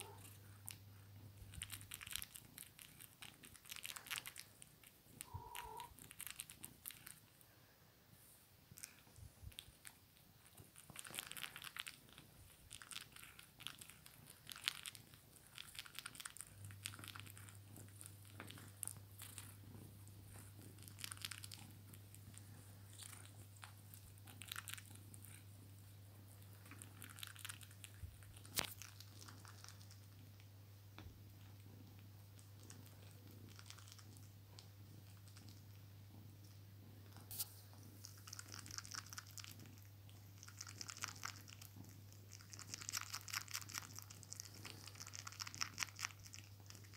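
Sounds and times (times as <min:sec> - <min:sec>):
kitten suckling: 0:00.0 - 0:07.4, 0:08.8 - 0:36.4, 0:37.1 - 0:46.9
low steady hum: 0:00.0 - 0:46.9.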